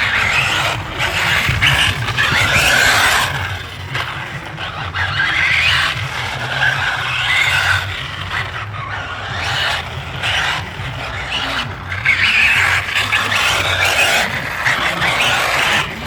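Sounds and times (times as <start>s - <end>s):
electric motor whining: 0.0s - 16.0s
tyres skidding: 0.0s - 16.0s.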